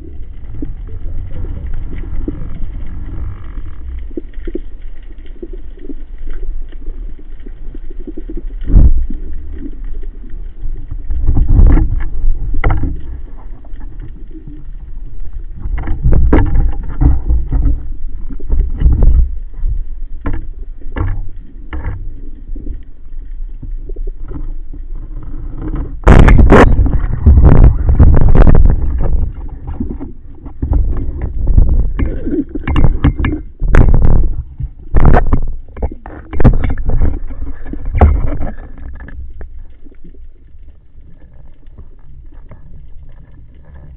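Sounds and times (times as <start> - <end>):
muffled rushing water: 0.0 - 43.9.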